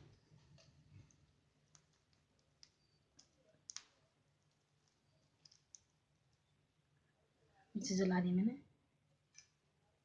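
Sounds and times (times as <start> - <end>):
low steady room hum: 0.0 - 10.0.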